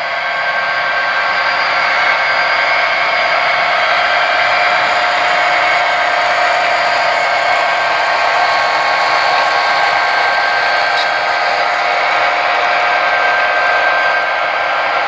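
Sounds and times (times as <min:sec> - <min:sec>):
model train whirring on track: 0:00.0 - 0:15.0.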